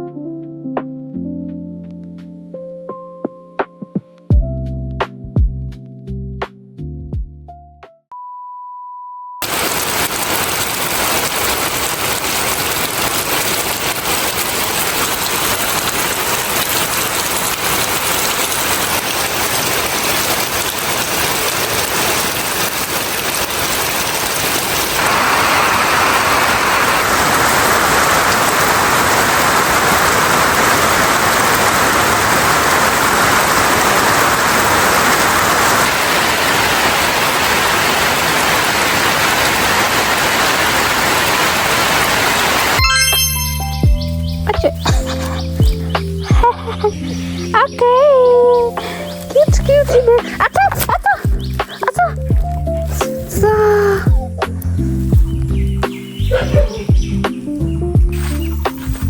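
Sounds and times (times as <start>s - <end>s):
heavy rain falling: 9.4s - 59.0s.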